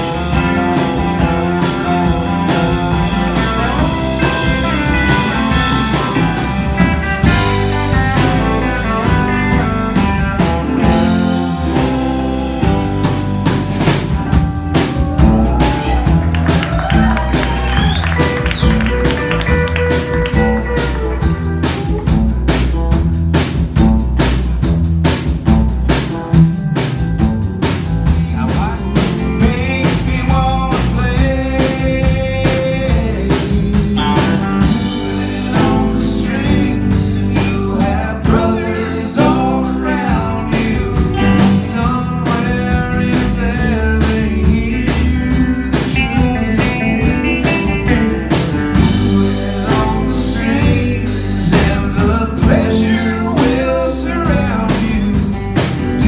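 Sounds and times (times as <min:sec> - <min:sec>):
drum kit steady beat: 0:00.0 - 0:56.0
electric guitars: 0:00.0 - 0:56.0.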